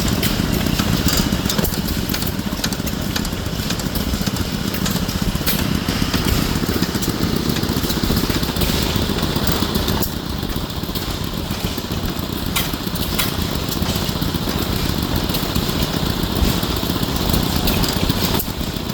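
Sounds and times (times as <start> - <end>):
hit-and-miss engine running: 0.0 - 18.9.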